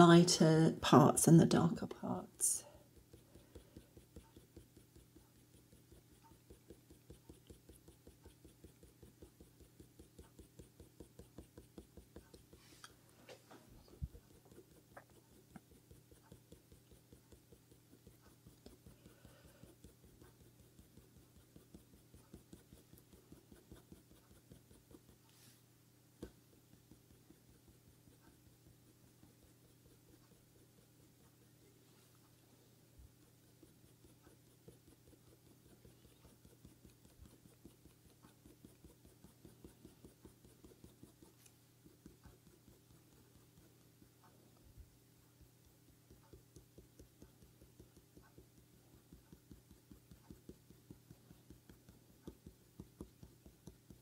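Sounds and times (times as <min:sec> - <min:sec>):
pencil scratching on paper: 0:00.0 - 0:25.6, 0:26.2 - 0:32.4, 0:33.0 - 0:54.0.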